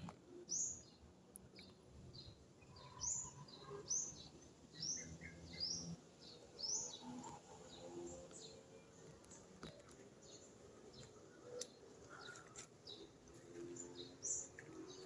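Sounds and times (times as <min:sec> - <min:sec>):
bird chirping: 0:00.4 - 0:15.0.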